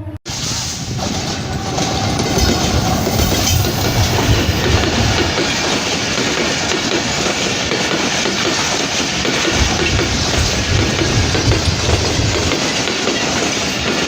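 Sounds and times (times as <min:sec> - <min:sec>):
train cars rushing: 0:00.3 - 0:14.0
train wheels clattering over rails: 0:00.3 - 0:14.0.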